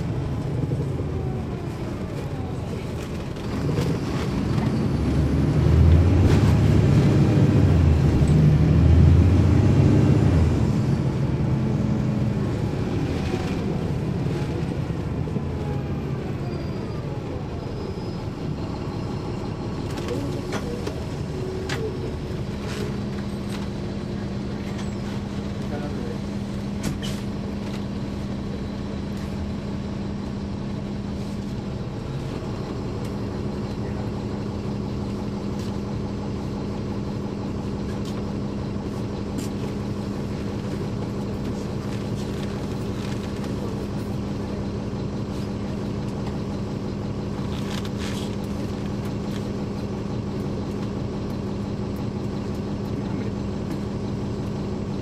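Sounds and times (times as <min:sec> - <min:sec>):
bus diesel engine idling: 0:00.0 - 0:55.0.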